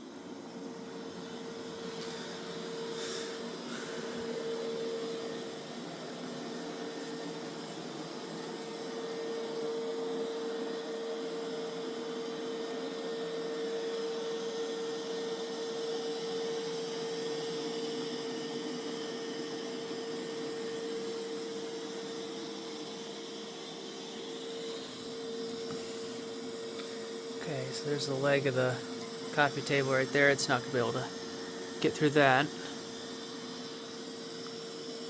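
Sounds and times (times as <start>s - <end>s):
robot vacuum motor hum: 0.0s - 35.0s.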